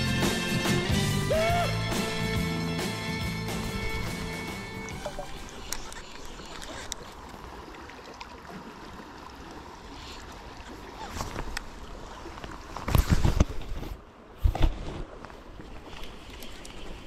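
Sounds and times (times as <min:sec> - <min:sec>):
river water running: 0:00.0 - 0:17.0.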